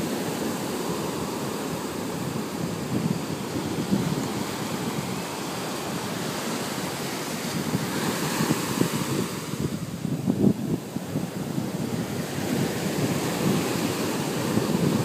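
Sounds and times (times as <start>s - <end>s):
ocean surf breaking on beach: 0.0s - 15.0s
wind buffeting microphone: 0.0s - 15.0s.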